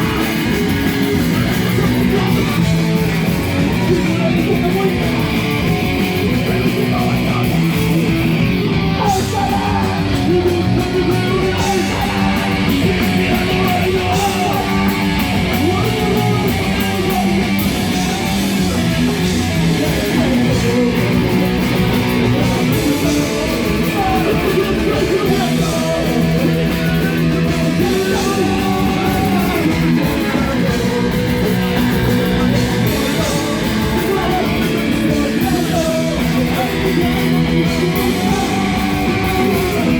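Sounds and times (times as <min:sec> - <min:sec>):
distorted electric guitars: 0:00.0 - 0:39.9
fast drums: 0:00.0 - 0:39.9.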